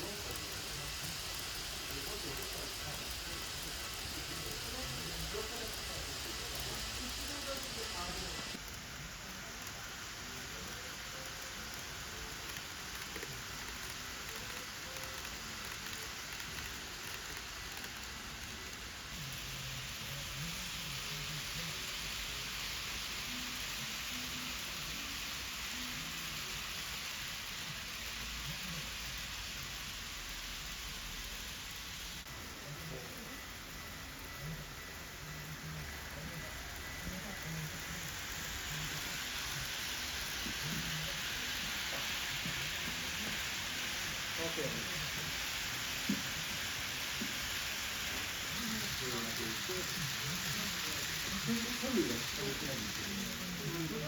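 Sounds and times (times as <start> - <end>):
faint voices murmuring: 0.0 - 29.3, 32.2 - 54.0
steady hiss: 0.0 - 54.0.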